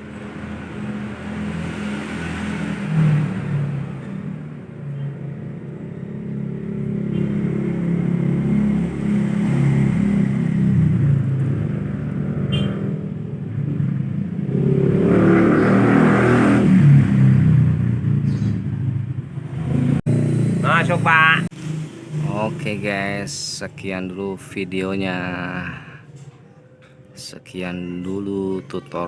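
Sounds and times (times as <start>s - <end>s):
vehicle engine revving: 0.0s - 23.3s.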